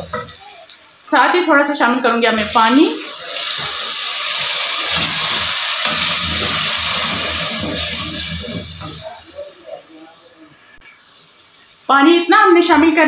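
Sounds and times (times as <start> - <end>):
water hissing in hot oil: 0.0 - 13.0.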